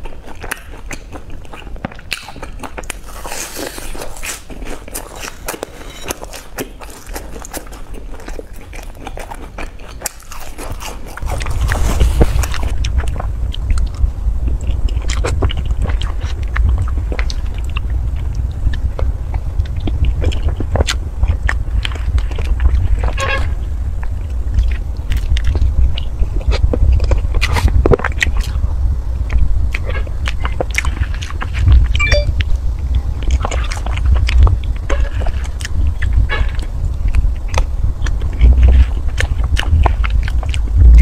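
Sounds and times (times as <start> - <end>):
steady low rumble: 0.0 - 41.0
wet chewing mouth sounds: 0.0 - 41.0.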